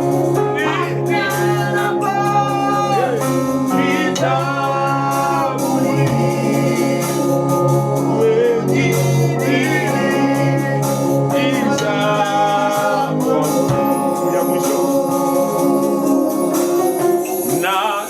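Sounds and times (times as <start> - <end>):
gospel voices singing: 0.0 - 18.0
sustained instrumental backing: 0.0 - 18.0.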